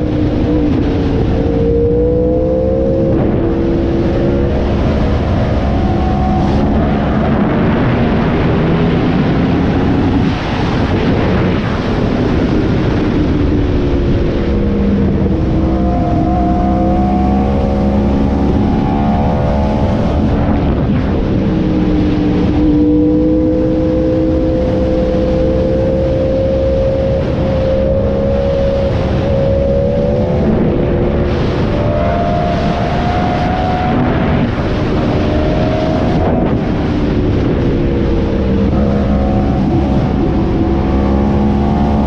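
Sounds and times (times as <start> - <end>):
motorcycle engine revving: 0.0 - 42.0
wind rush: 0.0 - 42.0.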